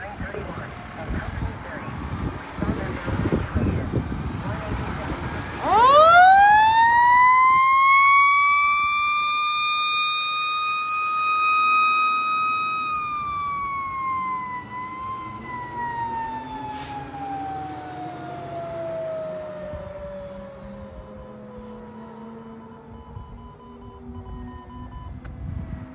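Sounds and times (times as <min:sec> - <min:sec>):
fire engine siren wailing: 0:00.0 - 0:25.9.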